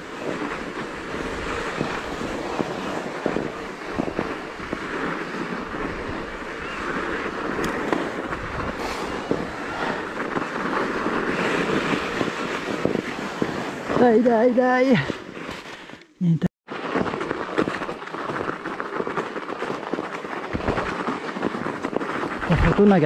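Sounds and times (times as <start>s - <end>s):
wind on microphone: 0.0s - 15.9s, 16.8s - 23.0s
bike tyres crunching snow: 0.0s - 16.1s, 16.7s - 23.0s.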